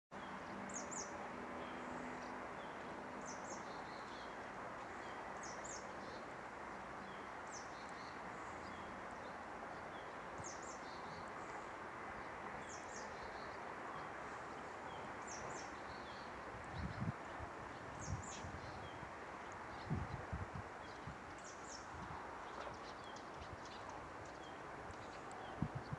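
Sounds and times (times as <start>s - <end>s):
rushing outdoor background noise: 0.1s - 25.9s.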